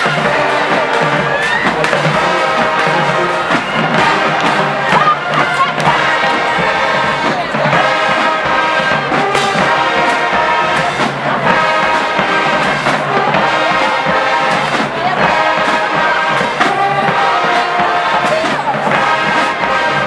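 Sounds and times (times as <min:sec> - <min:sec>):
brass section holding chords: 0:00.0 - 0:20.0
sharp percussion strikes: 0:00.0 - 0:20.0.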